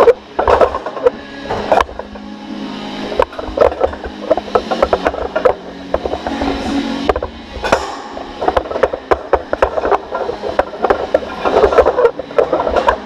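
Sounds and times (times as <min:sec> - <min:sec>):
clattering knocks and rattles: 0:00.0 - 0:02.1, 0:03.2 - 0:13.0.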